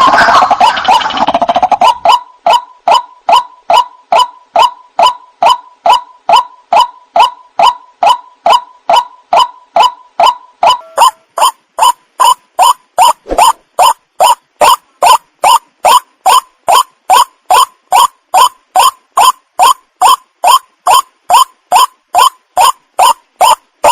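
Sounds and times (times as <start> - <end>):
waterhen calling: 0.0 - 23.9.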